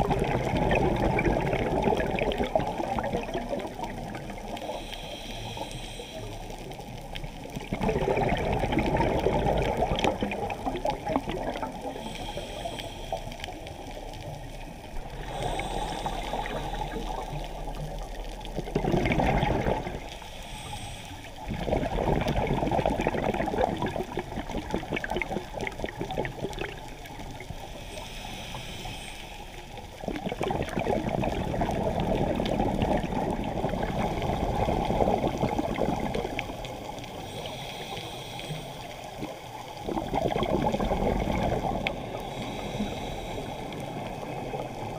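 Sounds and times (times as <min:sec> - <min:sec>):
muffled underwater bubbles: 0:00.0 - 0:44.9.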